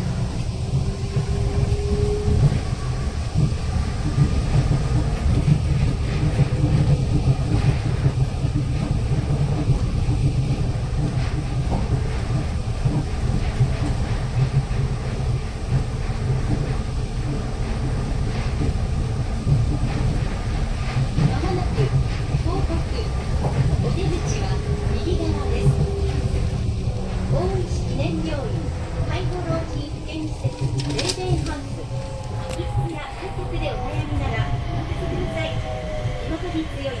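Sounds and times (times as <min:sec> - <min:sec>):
train rumbling along guideway: 0:00.0 - 0:37.0.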